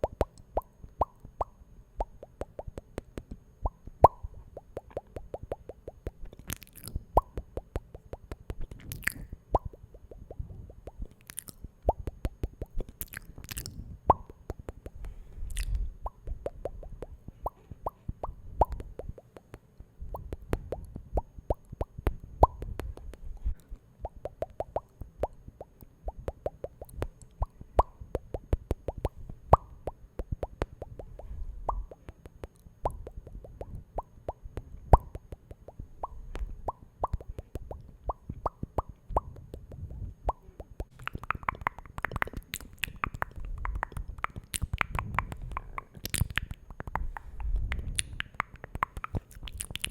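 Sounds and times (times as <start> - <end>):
wet mouth pops and clicks: 0.0 - 49.9.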